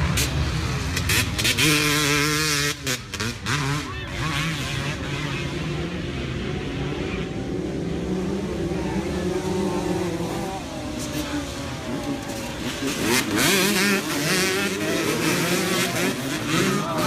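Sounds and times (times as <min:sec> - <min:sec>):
dirt bike engines racing: 0:00.0 - 0:17.0.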